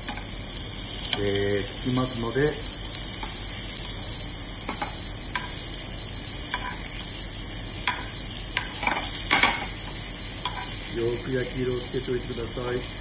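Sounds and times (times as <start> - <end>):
radish frying in butter: 0.0 - 13.0.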